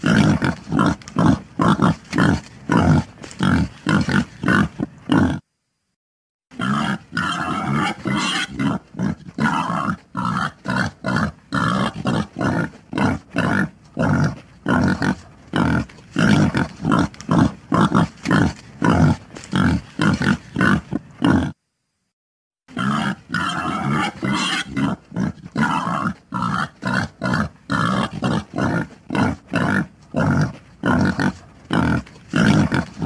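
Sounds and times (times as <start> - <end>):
pig grunting: 0.0 - 5.4, 6.5 - 21.6, 22.7 - 33.0.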